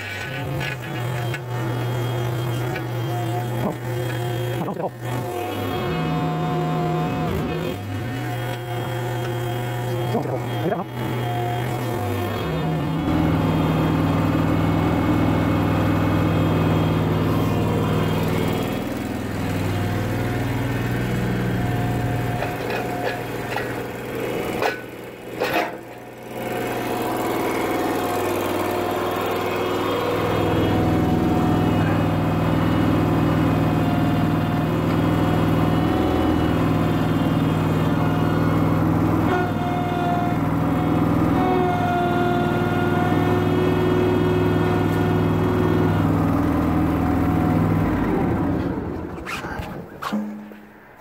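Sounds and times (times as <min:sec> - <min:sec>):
small engine running: 0:00.0 - 0:51.0.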